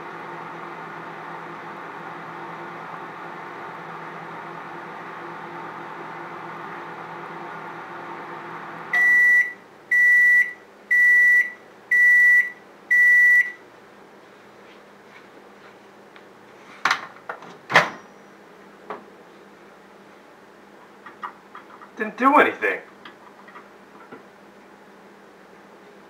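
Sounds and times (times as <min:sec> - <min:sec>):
microwave oven humming: 0:00.0 - 0:14.7, 0:15.3 - 0:26.0.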